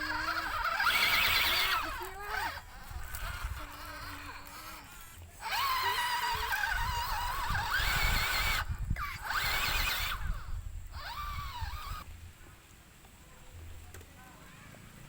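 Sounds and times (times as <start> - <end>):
toy car electric motor whining: 0.0 - 12.2.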